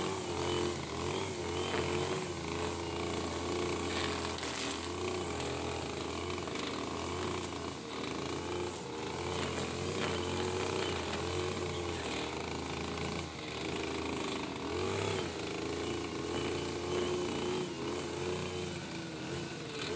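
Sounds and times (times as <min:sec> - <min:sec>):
brush cutter engine running: 0:00.0 - 0:19.9.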